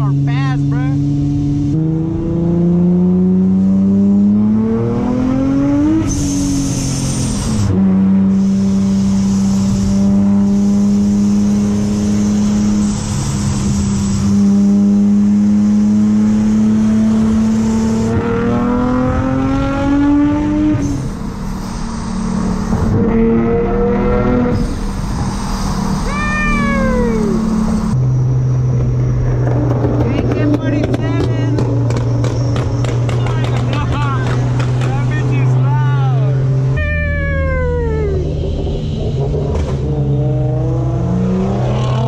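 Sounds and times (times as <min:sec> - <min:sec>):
car engine accelerating in cabin: 0:00.0 - 0:42.0.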